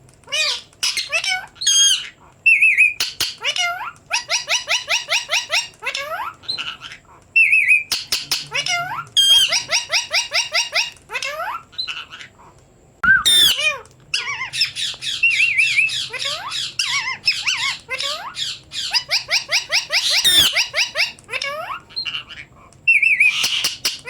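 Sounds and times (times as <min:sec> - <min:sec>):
parrot squawking and whistling: 0:00.3 - 0:12.3, 0:13.0 - 0:24.0.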